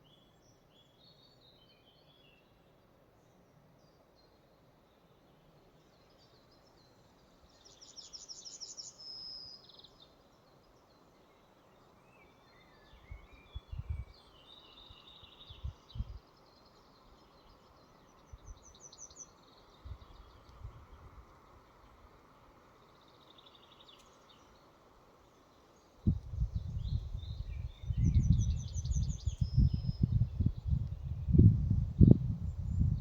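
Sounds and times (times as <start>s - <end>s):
soft steady hiss: 0.0s - 33.0s
songbirds singing: 0.0s - 33.0s.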